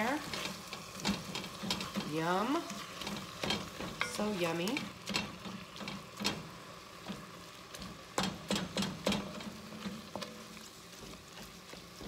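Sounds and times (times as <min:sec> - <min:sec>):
light sizzle: 0:00.0 - 0:12.0
wooden spatula scraping a pot: 0:00.0 - 0:12.0.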